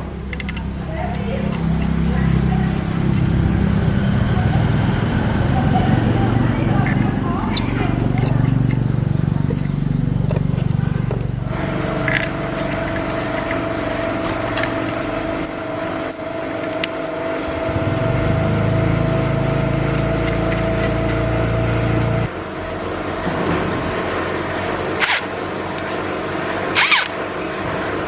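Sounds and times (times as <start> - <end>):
machine humming: 0.0 - 28.0.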